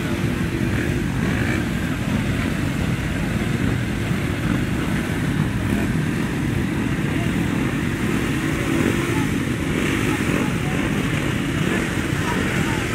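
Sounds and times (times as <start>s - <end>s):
many moped engines droning: 0.0s - 12.9s.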